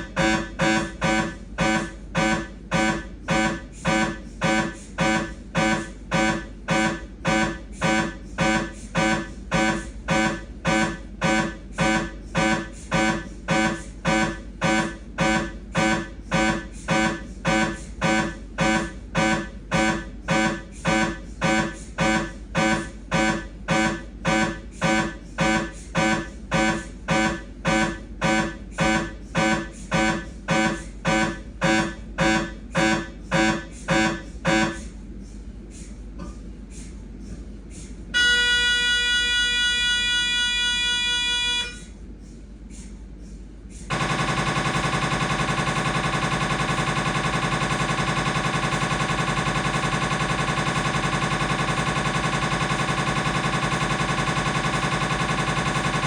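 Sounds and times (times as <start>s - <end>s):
mri scanner buzzing pulses: 0.0s - 34.8s, 43.9s - 56.0s.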